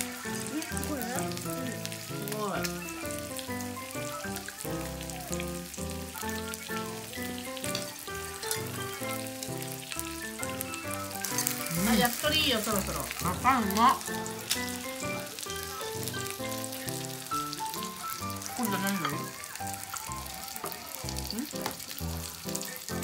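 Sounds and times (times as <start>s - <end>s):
music playing: 0.0s - 23.0s
skewers sizzling on a hot plate: 0.0s - 23.0s.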